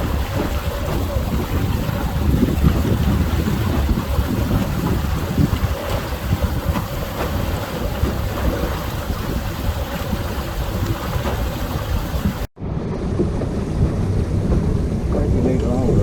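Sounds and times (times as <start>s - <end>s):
boat and water noise: 0.0s - 16.0s
wind rushing over microphone: 0.0s - 16.0s.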